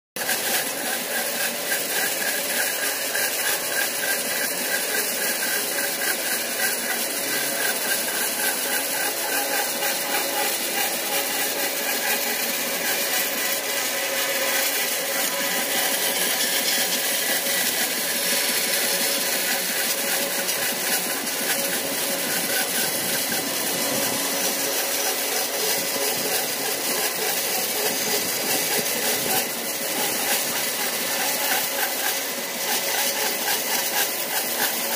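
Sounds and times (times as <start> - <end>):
band saw cutting wood: 0.2 - 34.9.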